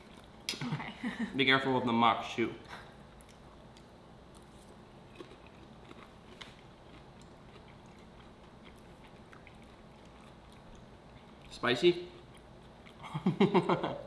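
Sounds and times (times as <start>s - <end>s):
people chewing food: 0.0s - 0.6s, 2.6s - 13.7s.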